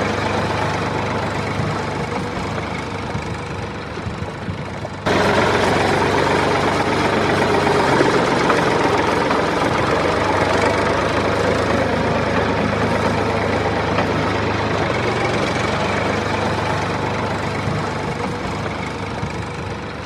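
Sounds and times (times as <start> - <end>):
engine running with rattle: 0.0 - 20.0.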